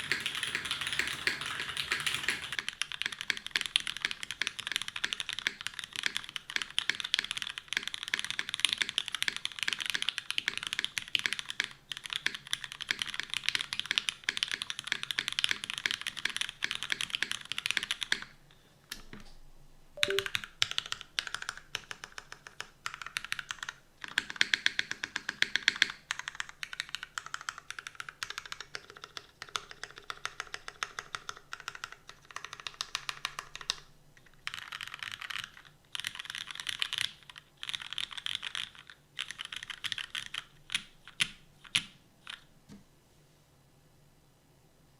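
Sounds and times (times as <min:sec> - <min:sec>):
fast mechanical keyboard typing: 0:00.0 - 0:18.4, 0:20.0 - 0:42.5.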